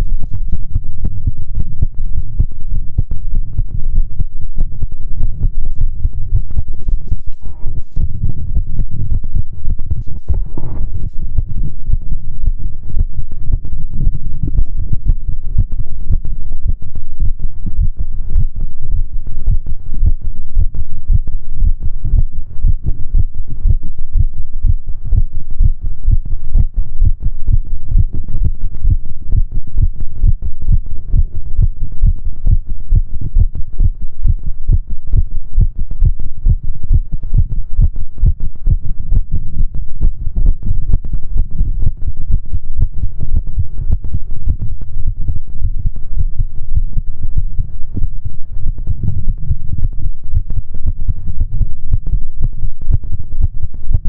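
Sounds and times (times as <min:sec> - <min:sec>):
heartbeat: 0:00.0 - 0:54.0.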